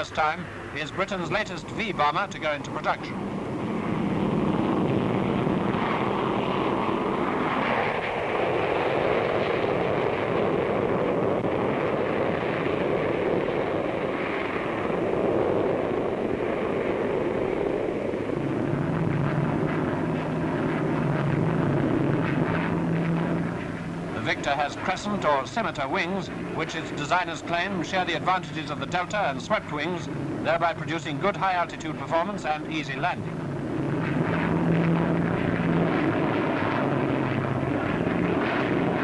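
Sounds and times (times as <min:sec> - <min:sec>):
jet aircraft taking off: 0:00.0 - 0:39.0.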